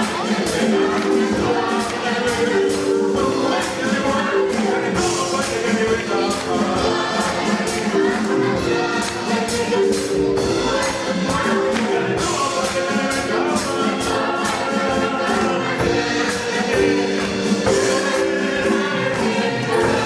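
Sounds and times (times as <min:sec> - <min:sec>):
children's choir singing gospel: 0:00.0 - 0:20.0
drum kit: 0:00.0 - 0:20.0
keyboard: 0:00.0 - 0:20.0
percussion hits: 0:00.0 - 0:20.0.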